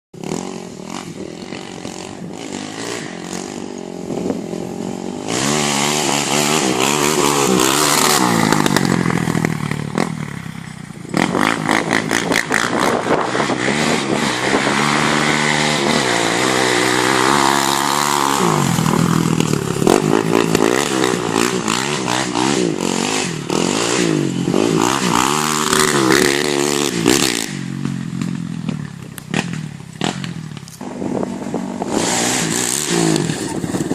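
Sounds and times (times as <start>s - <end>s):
atv engine idling and revving: 0.2s - 33.9s.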